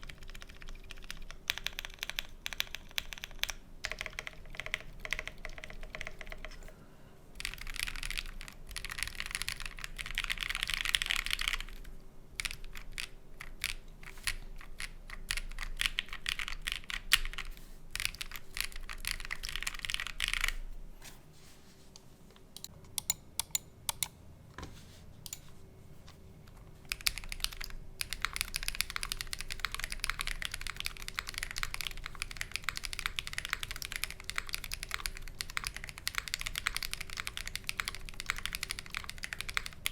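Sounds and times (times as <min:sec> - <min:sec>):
typing on mechanical keyboard: 0:00.0 - 0:06.7, 0:07.4 - 0:20.6, 0:26.9 - 0:39.9
faint fan hum: 0:00.0 - 0:39.9.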